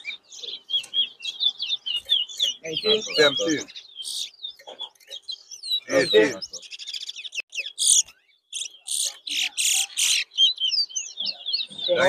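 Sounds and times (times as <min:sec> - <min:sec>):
finches chirping and trilling: 0:00.0 - 0:12.0.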